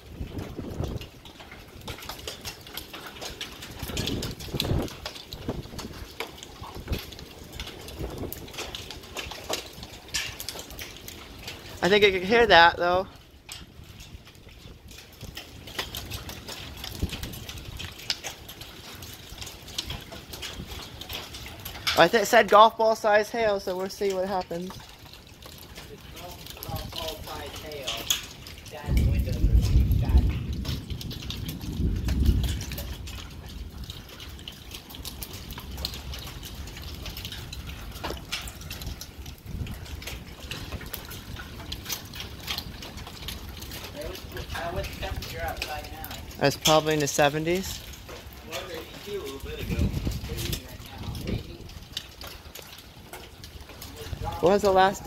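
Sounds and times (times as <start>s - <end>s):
hail striking hard surfaces: 0.0s - 55.0s
wind rumble on microphone: 0.0s - 55.0s
rain hiss: 6.8s - 55.0s.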